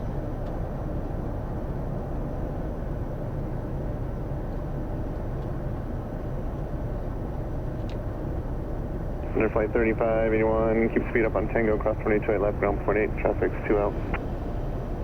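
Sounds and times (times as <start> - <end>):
jet cockpit rumble: 0.0 - 15.0.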